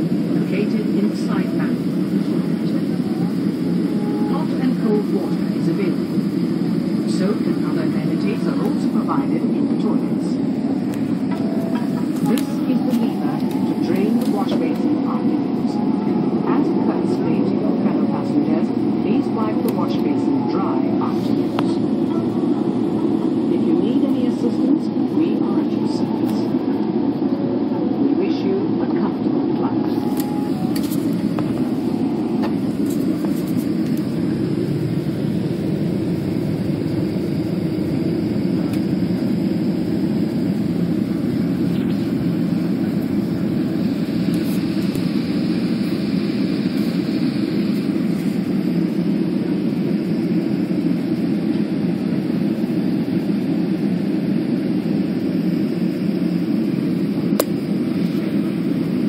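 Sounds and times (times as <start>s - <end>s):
jet engines and airflow in cabin: 0.0s - 59.0s.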